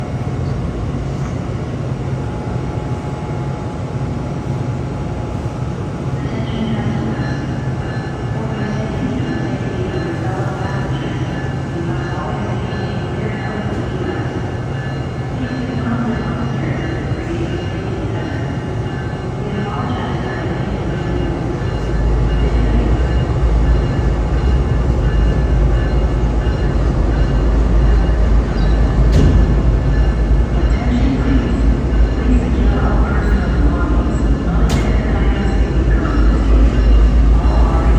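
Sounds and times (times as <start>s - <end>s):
diesel locomotive engine running: 0.0s - 37.9s.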